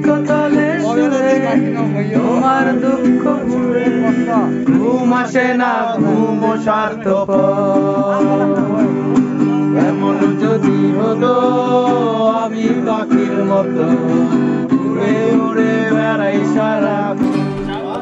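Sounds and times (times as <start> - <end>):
acoustic guitar strumming: 0.0 - 18.0
men singing: 0.0 - 18.0.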